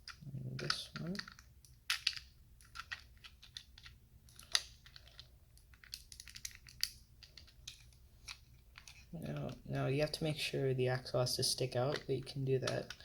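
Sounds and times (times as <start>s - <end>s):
plastic pieces clicking together: 0.0s - 9.6s, 11.8s - 13.0s.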